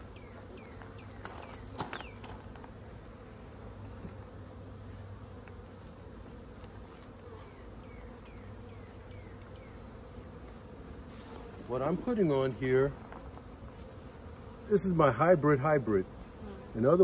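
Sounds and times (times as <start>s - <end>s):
honeybees humming: 0.0s - 17.0s.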